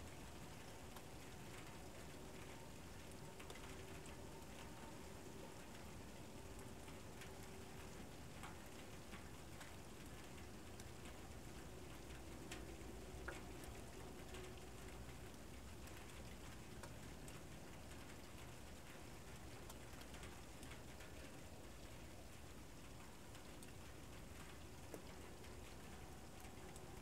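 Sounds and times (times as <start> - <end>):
faint steady hiss: 0.0 - 27.0
soft ticks and clicks: 0.1 - 27.0.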